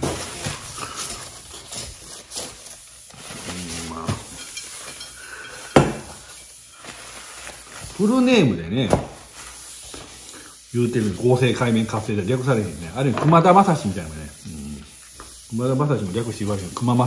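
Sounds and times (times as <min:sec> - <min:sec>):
wipe scrubbing countertop: 0:00.0 - 0:17.0.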